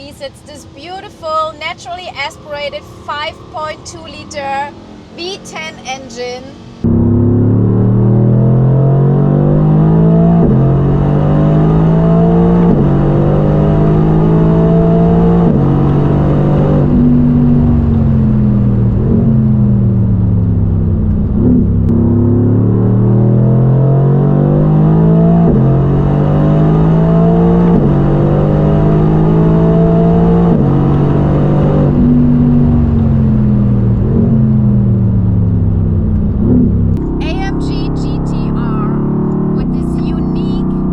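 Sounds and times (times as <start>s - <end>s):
car engine revving through gears: 0.1s - 40.9s.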